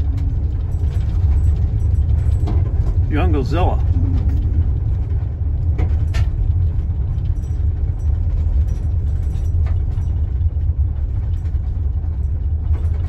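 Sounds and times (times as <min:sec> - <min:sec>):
van driving on gravel: 0:00.0 - 0:13.0.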